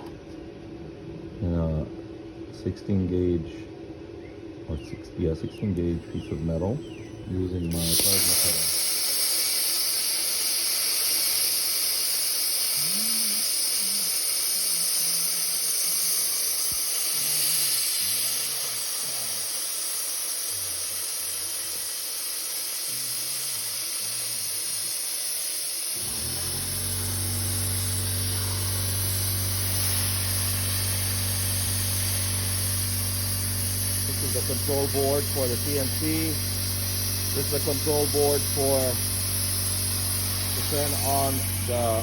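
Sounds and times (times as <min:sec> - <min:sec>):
steady low hum: 0:00.0 - 0:42.0
plasma torch hissing: 0:07.7 - 0:42.0.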